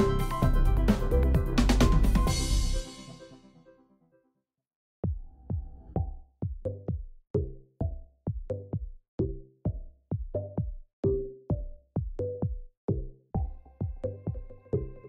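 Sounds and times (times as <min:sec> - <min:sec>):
electronic music with drum-machine beat: 0:00.0 - 0:03.5, 0:05.0 - 0:15.0.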